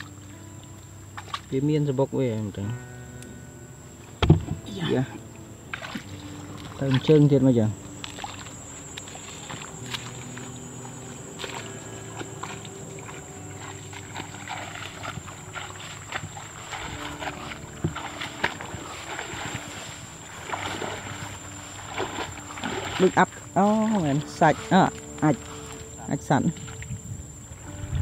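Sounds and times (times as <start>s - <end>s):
legs sloshing through water: 0.0s - 1.6s, 4.0s - 27.8s
high-pitched whine: 2.0s - 28.0s.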